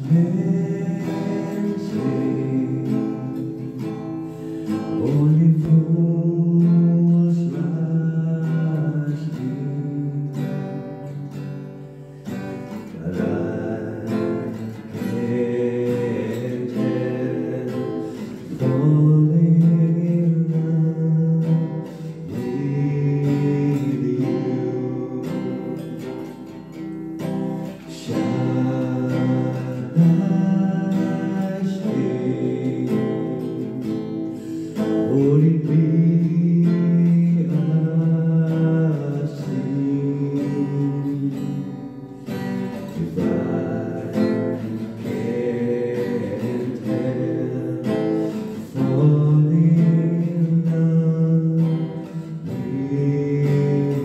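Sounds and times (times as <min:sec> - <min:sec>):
man singing into microphone: 0:00.0 - 0:03.9, 0:04.8 - 0:11.3, 0:12.6 - 0:26.0, 0:27.8 - 0:42.0, 0:42.9 - 0:54.0
acoustic guitar strumming: 0:00.0 - 0:54.0.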